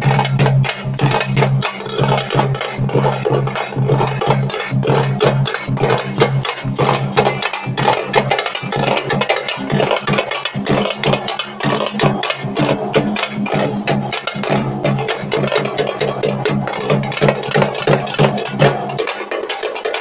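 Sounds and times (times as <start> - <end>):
bass drum beats: 0.0 - 19.4
small drum beaten with sticks: 0.0 - 20.0.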